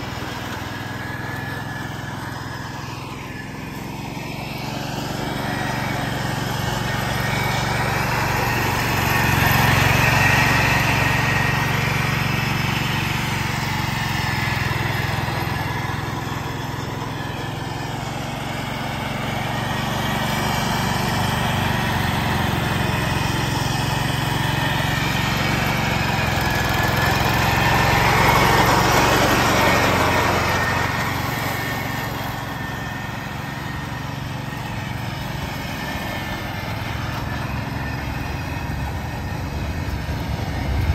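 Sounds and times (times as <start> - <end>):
mower deck mulching dry leaves: 0.0 - 40.9
tractor engine running: 0.0 - 40.9.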